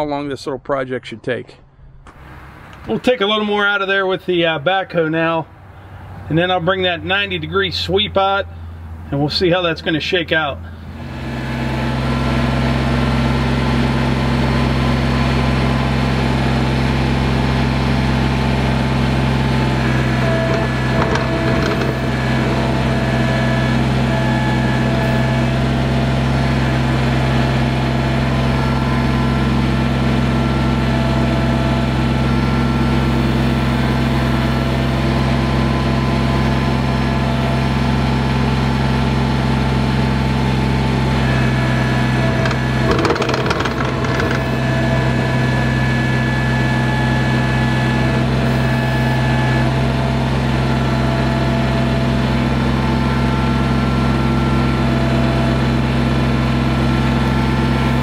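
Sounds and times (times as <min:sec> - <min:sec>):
tractor diesel engine running: 0:02.0 - 0:58.0.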